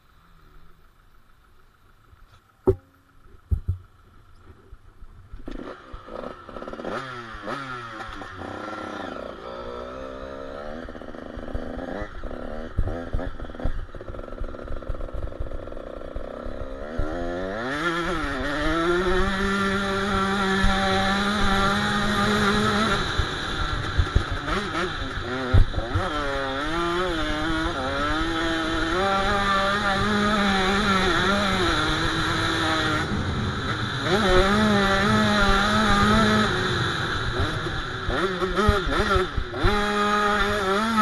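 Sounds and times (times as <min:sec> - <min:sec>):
motocross bike engine revving: 0:00.0 - 0:41.0.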